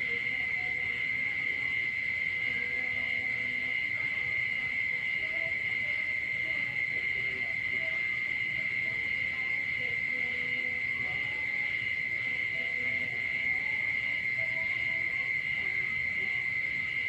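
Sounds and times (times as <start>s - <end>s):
faint lower frog calls: 0.0s - 17.0s
frogs chorus: 0.0s - 17.0s.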